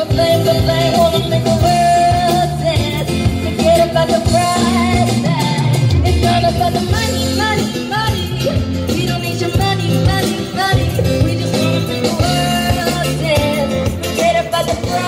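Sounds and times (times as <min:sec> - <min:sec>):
backing music: 0:00.0 - 0:15.0
person singing into a microphone: 0:00.0 - 0:15.0.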